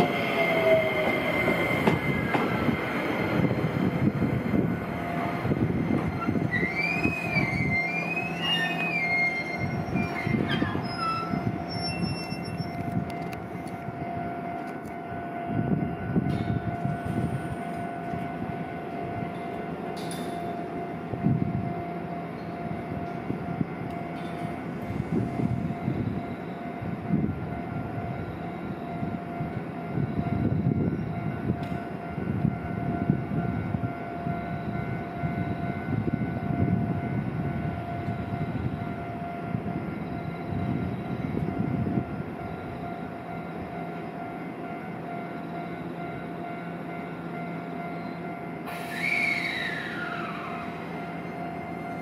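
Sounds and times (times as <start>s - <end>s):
train electrical whine: 0.0s - 52.0s.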